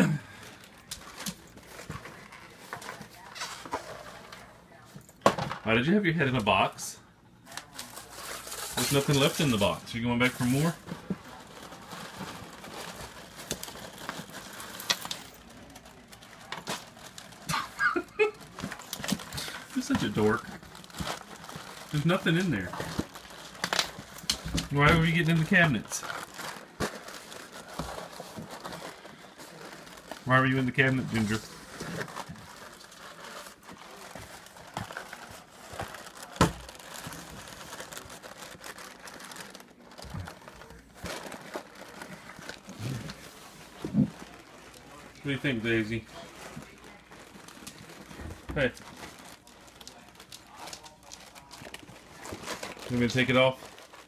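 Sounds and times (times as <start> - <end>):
cardboard box rustling and crinkling: 7.7 - 17.5, 18.4 - 54.0.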